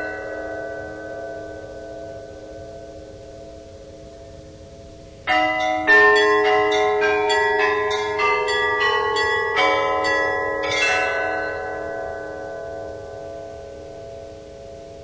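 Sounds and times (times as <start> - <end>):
church bells ringing: 0.0 - 4.6, 5.2 - 15.0.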